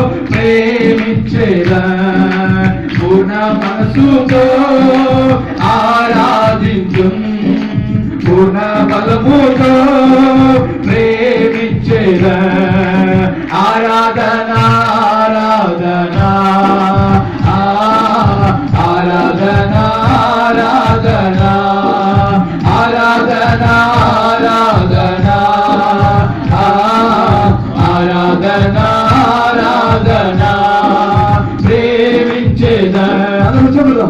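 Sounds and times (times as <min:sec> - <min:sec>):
hands clapping: 0:00.0 - 0:34.0
men singing into microphones: 0:00.0 - 0:34.0.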